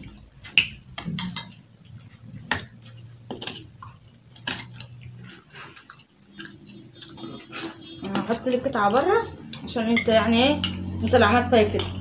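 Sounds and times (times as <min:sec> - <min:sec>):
cutlery clinking on plates: 0:00.0 - 0:05.1, 0:06.0 - 0:08.5, 0:09.6 - 0:12.0.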